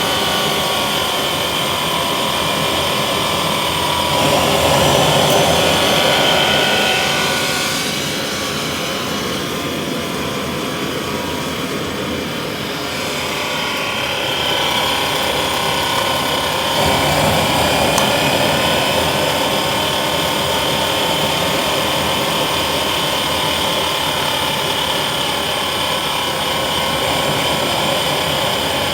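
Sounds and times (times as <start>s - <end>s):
jet turbine whine: 0.0s - 28.9s.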